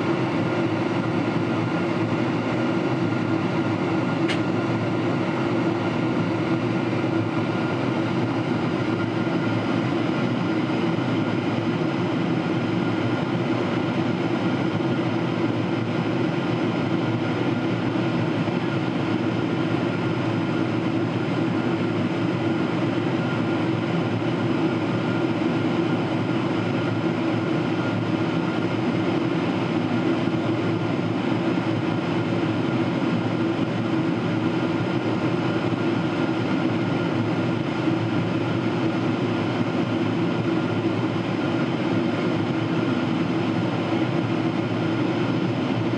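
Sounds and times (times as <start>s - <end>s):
airflow rushing in cabin: 0.0s - 45.9s
jet engines humming: 0.0s - 45.9s.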